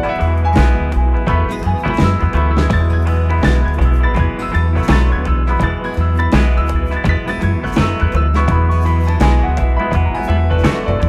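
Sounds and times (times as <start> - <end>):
bass line: 0.0 - 11.0
guitar: 0.0 - 11.0
steady drum beat: 0.0 - 11.0.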